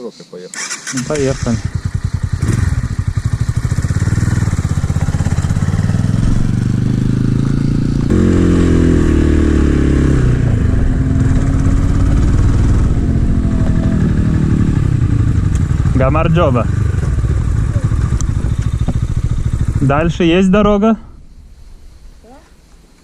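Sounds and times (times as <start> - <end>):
motorcycle engine running: 1.0 - 21.6.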